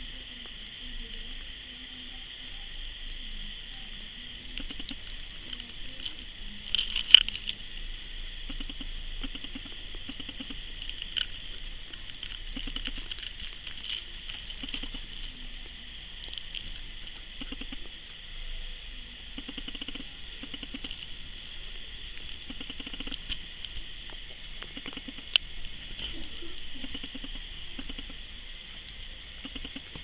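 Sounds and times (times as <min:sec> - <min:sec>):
steady hiss: 0:00.0 - 0:30.0
kittens lapping milk: 0:00.1 - 0:30.0.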